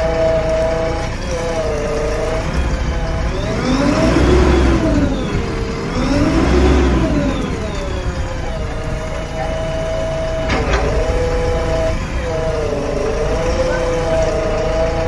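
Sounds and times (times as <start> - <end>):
diesel engine rumble: 0.0 - 15.0
hydraulic pump whining: 0.0 - 15.0.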